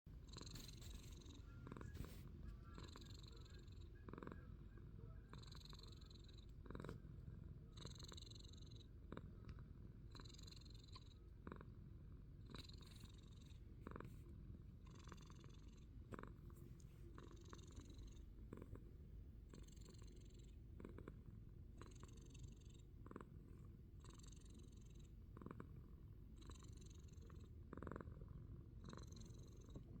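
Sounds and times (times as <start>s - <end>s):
cat purring: 0.1s - 30.0s.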